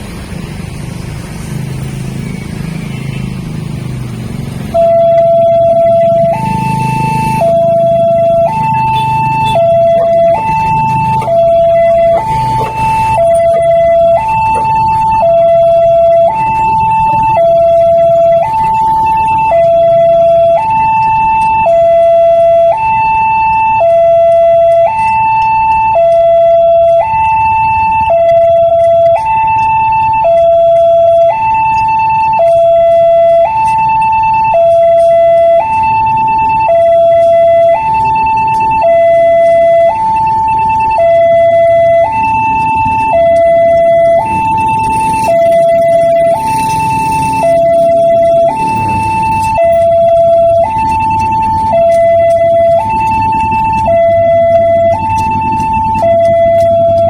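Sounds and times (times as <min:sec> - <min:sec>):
two-tone electronic alarm: 0:01.8 - 0:57.0.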